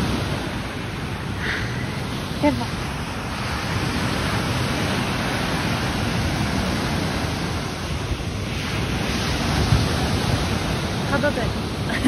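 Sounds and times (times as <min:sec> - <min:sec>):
sea waves washing onto sand: 0:00.0 - 0:12.0
wind on microphone: 0:00.0 - 0:12.0.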